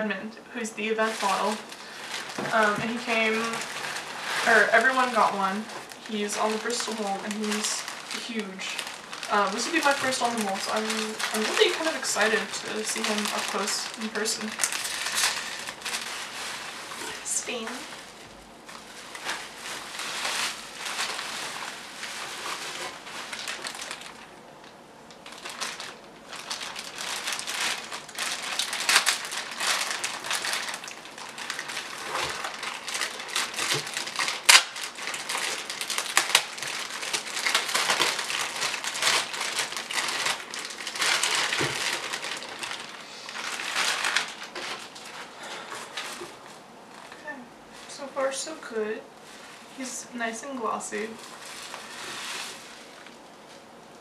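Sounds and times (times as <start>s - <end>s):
bubble wrap crinkling: 0.0s - 54.0s
bubble wrap snap: 1.1s - 45.1s.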